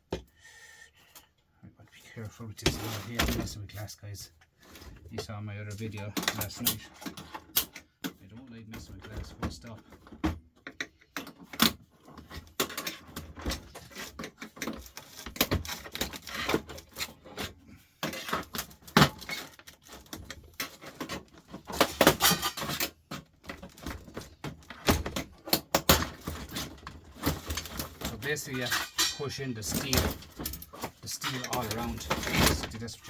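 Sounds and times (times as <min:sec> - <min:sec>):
clinks and rattles of lamp parts: 0:05.7 - 0:08.2, 0:08.8 - 0:33.0.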